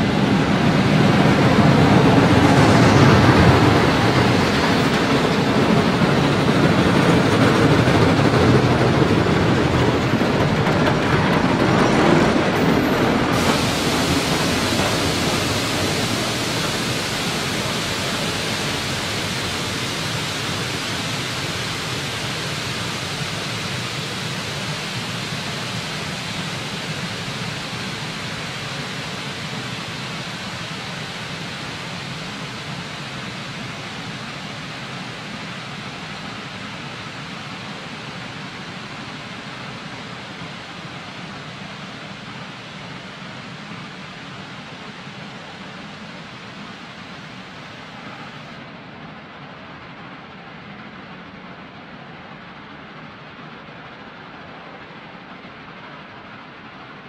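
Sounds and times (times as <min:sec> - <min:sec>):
steam locomotive exhaust: 0:00.0 - 0:48.9.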